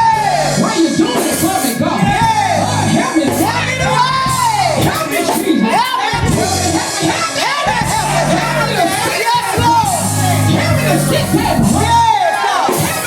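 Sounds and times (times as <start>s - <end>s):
church organ chords: 0.0s - 5.4s, 6.2s - 7.0s, 7.7s - 12.2s
crowd shouting: 0.0s - 13.0s
preacher shouting and whooping: 1.9s - 13.0s.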